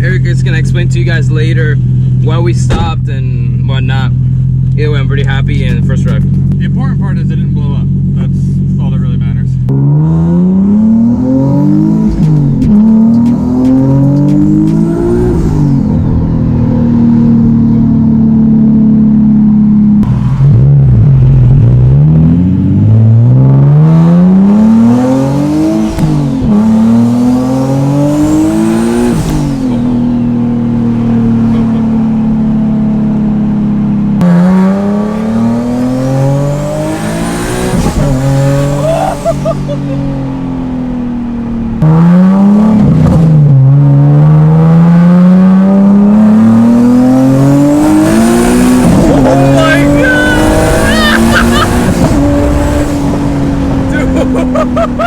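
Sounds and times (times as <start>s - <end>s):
car engine accelerating through gears: 9.6s - 55.0s.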